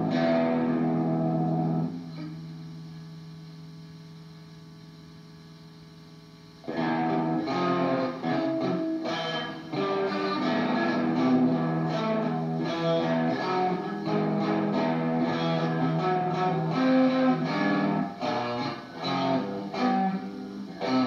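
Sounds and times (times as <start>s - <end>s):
distorted electric guitar: 0.0s - 5.4s, 6.4s - 21.0s.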